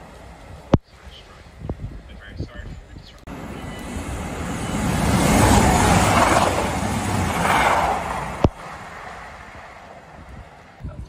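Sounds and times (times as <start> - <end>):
train engine and wheel rumble: 0.0 - 11.0.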